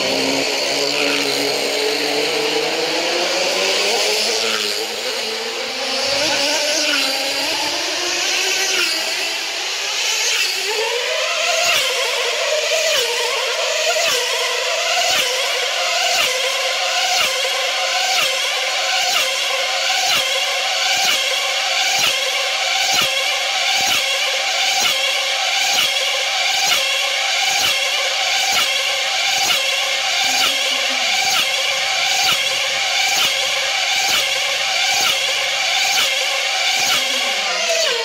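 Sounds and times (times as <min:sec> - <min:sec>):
model car engine whining: 0:00.0 - 0:38.0.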